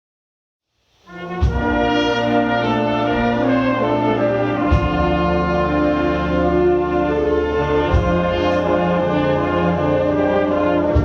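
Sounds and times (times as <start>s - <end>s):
wind band brass chords: 1.0s - 11.0s.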